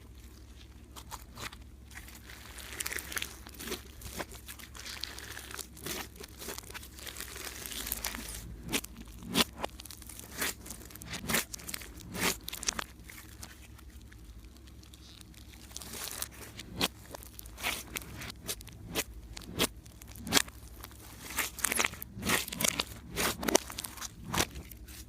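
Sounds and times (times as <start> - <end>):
slime squished crackling and popping: 0.0 - 25.0.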